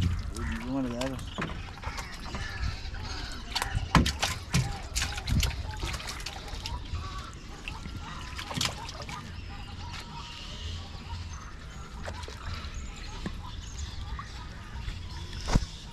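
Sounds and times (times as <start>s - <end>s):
water splashing and dripping: 0.0s - 10.3s, 11.0s - 15.9s.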